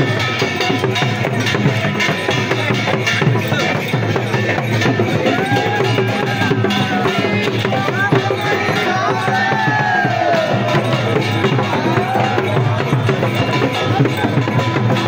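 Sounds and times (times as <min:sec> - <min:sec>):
drums and clacking percussion: 0:00.0 - 0:15.0.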